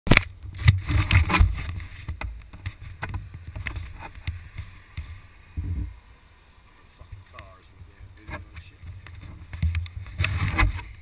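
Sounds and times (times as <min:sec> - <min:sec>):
wind buffeting microphone: 0:00.3 - 0:11.0.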